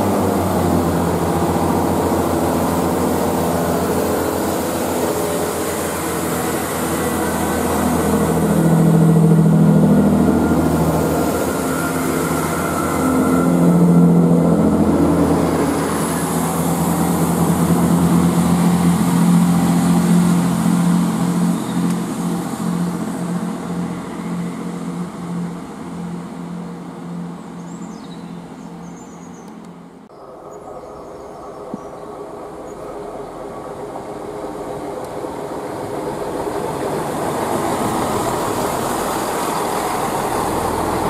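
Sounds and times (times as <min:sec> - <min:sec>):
diesel train engines humming: 0:00.0 - 0:41.0.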